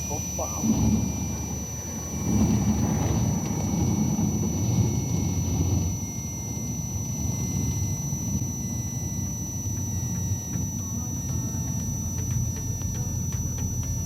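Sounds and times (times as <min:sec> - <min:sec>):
aircraft engine and airflow rumble: 0:00.0 - 0:14.0.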